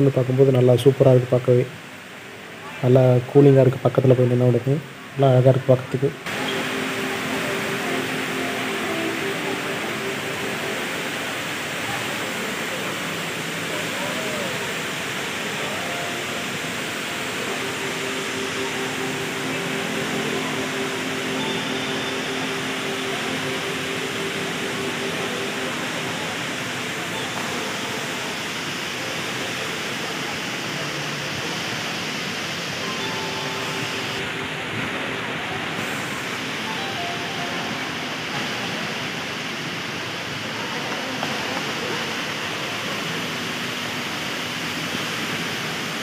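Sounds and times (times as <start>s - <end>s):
waterfall rushing into pool: 0.0s - 46.0s.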